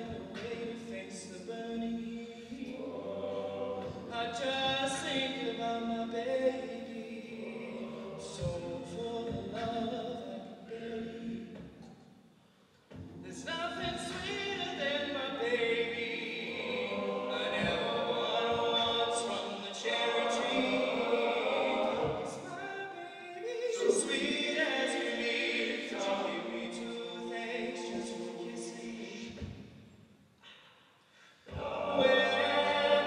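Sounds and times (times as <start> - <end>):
men singing a cappella harmony: 0.0 - 11.6, 13.3 - 29.4, 31.4 - 33.0.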